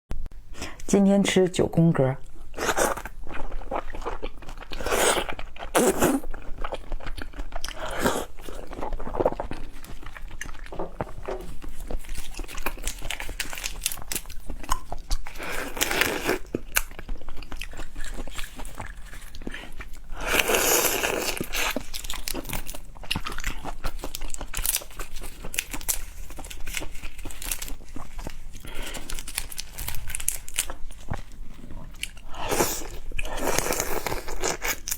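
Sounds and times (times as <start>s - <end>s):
crunching and chewing food: 2.2s - 34.9s.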